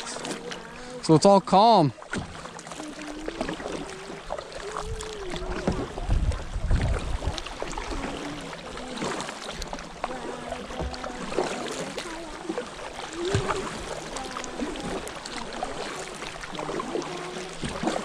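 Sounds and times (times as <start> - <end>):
paddle strokes: 0.0 - 18.0
water lapping: 0.0 - 18.0.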